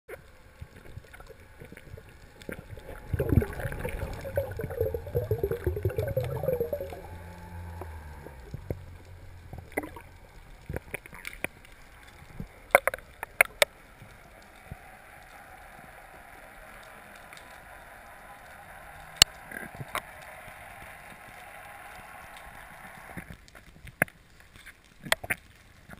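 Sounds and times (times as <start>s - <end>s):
gurgling underwater noise: 0.2s - 23.4s.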